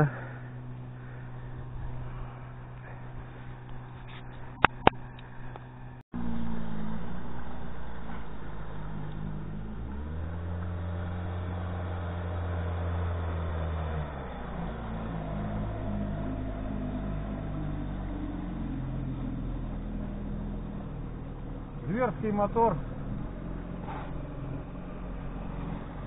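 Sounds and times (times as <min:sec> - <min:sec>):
outboard motor droning: 0:00.0 - 0:26.0.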